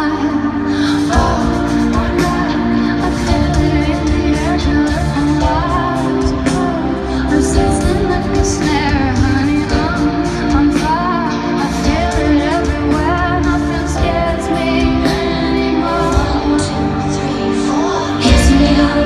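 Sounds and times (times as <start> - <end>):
woman singing with live band: 0.0 - 19.0.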